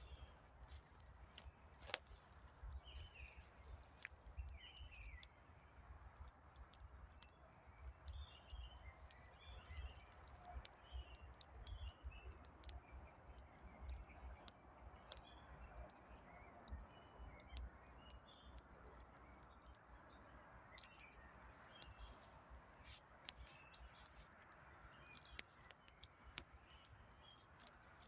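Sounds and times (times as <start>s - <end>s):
campfire crackling: 0.0s - 16.0s, 16.6s - 20.0s, 20.7s - 28.0s
small birds chirping: 0.0s - 28.0s.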